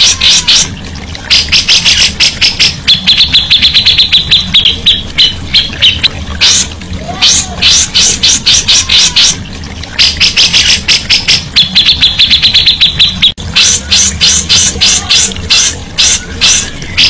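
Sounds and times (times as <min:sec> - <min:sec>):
songbird calling harshly: 0:01.3 - 0:09.4, 0:10.0 - 0:17.0.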